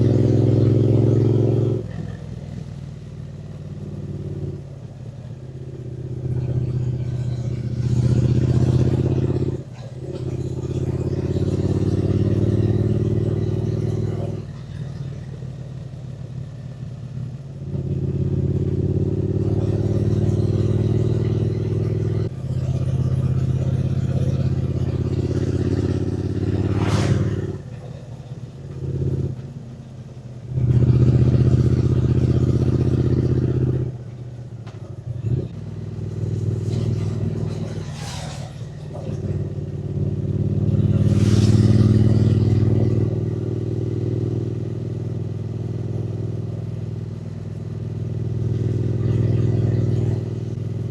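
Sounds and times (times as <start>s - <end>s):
motorcycle engine under throttle: 0.0s - 29.6s, 30.4s - 50.9s.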